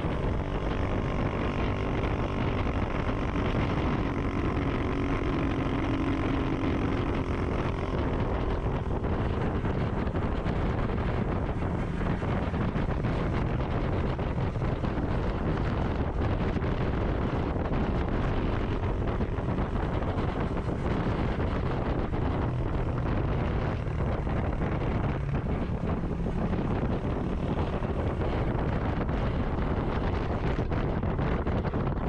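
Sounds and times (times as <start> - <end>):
motorcycle engine hum: 0.0 - 32.0
wind buffeting microphone: 0.0 - 32.0.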